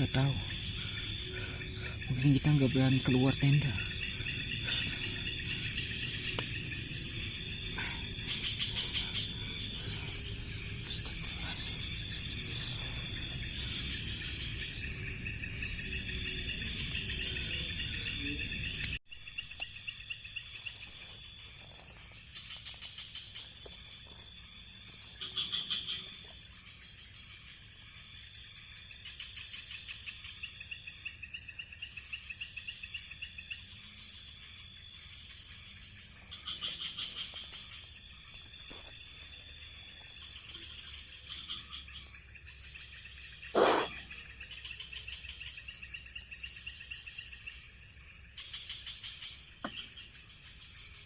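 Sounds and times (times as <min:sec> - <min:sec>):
crickets and insects chirping: 0:00.0 - 0:51.0.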